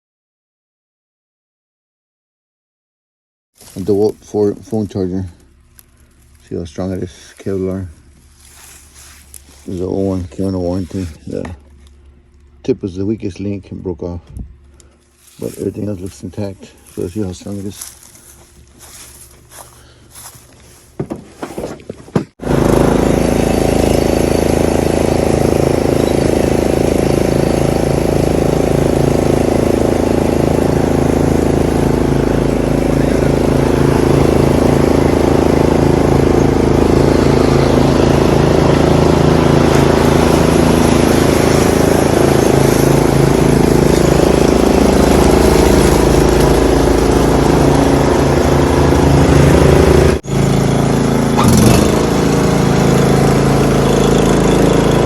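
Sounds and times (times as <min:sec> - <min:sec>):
vehicle engine running: 0:03.6 - 0:21.6, 0:22.4 - 0:55.0.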